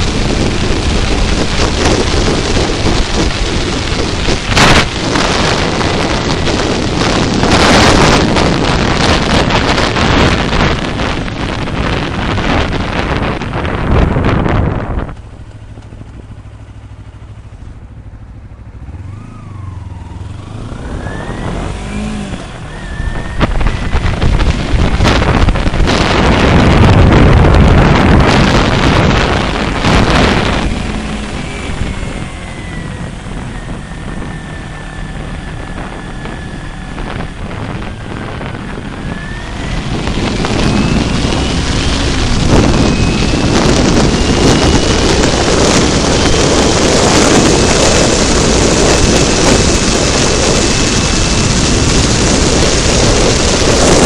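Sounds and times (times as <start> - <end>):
motorcycle engine: 0.0 - 54.0
wind rush on microphone: 0.0 - 54.0.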